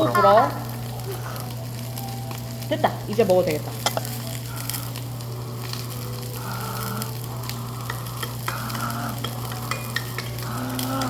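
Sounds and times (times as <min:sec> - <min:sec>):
beef sizzling on a grill: 0:00.0 - 0:11.0.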